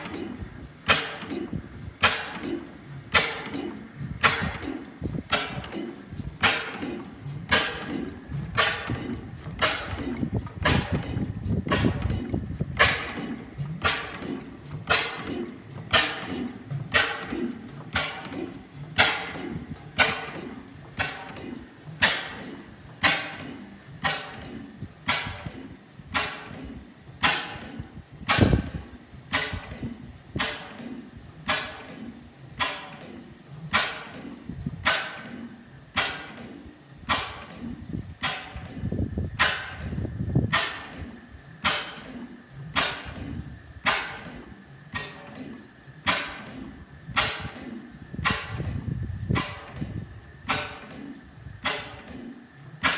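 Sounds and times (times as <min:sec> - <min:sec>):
oil engine running slowly: 0:00.0 - 0:52.9
sharp regular engine knock: 0:00.0 - 0:52.9.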